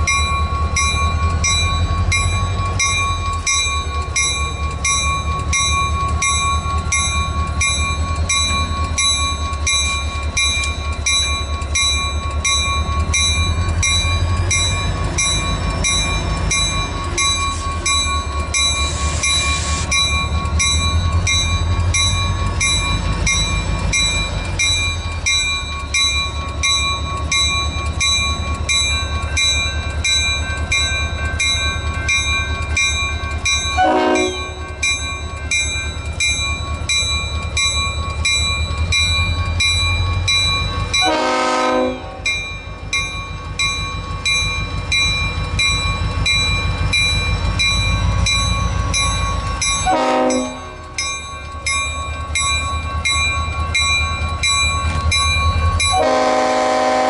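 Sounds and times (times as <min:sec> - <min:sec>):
crossing warning bell ringing: 0:00.0 - 0:57.0
diesel locomotive rumble: 0:00.0 - 0:57.0.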